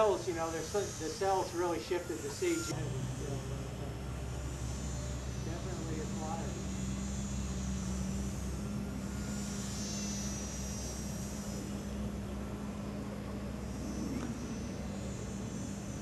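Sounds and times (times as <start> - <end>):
model plane motor whine: 0.0 - 16.0
steady low hum: 0.0 - 16.0.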